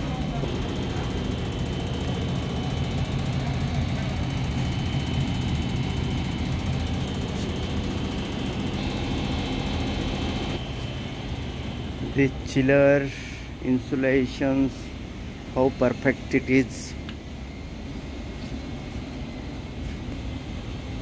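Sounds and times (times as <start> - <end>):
faint high whine: 0.0 - 21.0
machinery humming: 0.0 - 21.0.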